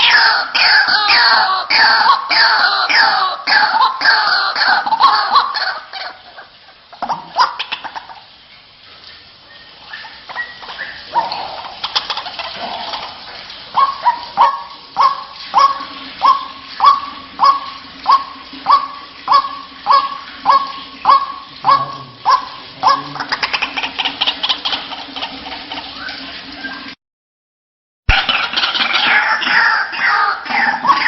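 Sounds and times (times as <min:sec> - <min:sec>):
waterhen calling: 0:00.0 - 0:27.0, 0:28.1 - 0:31.0.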